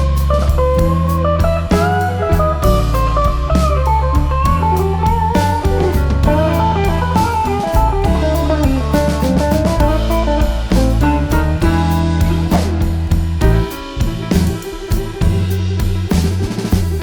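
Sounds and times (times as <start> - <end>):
guitar melody with bass and drums: 0.0 - 17.0.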